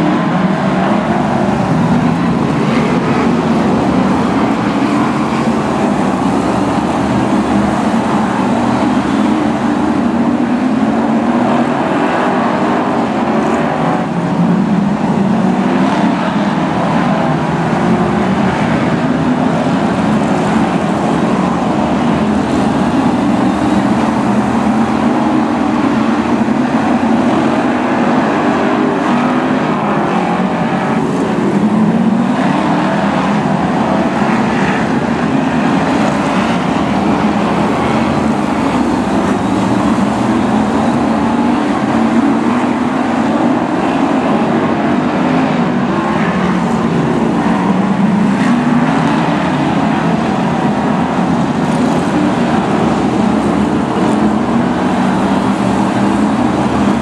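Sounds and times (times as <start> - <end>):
racing car engines roaring: 0.0 - 57.0.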